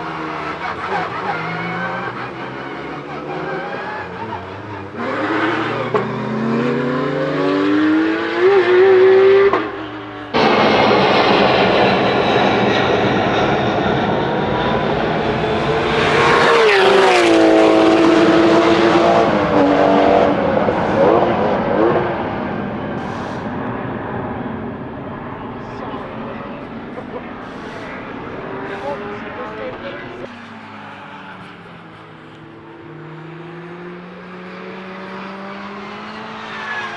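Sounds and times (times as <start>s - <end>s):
race car engine accelerating: 0.0s - 36.9s
race cars passing by: 0.0s - 36.9s.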